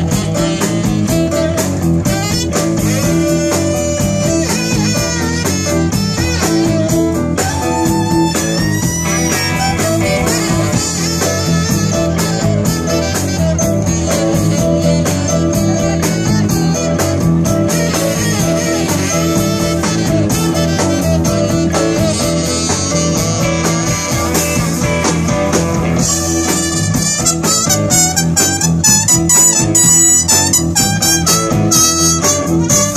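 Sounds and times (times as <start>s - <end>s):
live blues band playing: 0.0s - 32.9s.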